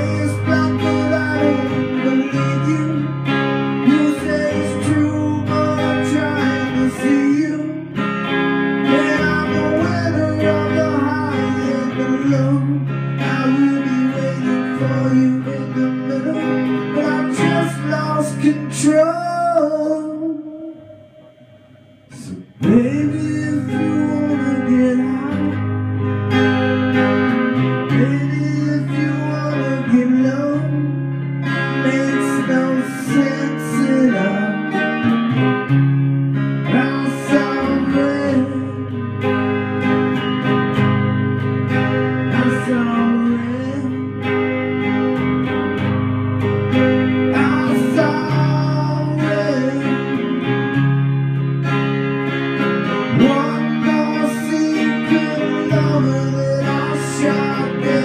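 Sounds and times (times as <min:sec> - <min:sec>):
guitars: 0:00.0 - 0:58.0.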